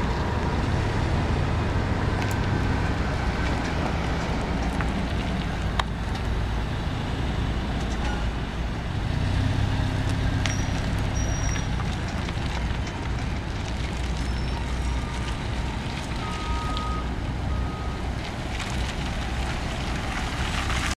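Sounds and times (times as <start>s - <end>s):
pickup truck engine hum: 0.0s - 21.0s.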